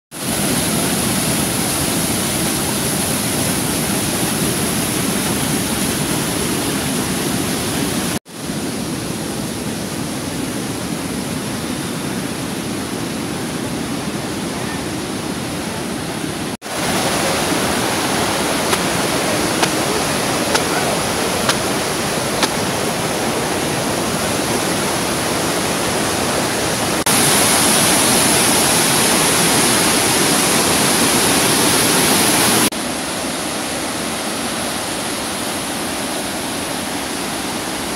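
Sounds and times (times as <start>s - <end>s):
water rushing over rapids: 0.2s - 37.9s.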